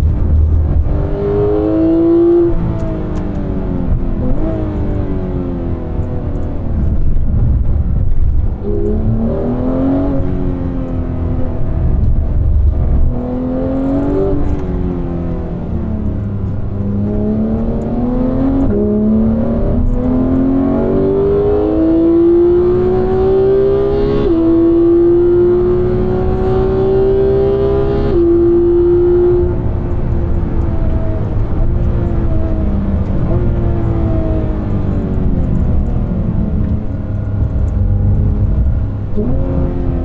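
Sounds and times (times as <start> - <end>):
car engine accelerating through upshifts: 0.0 - 40.0.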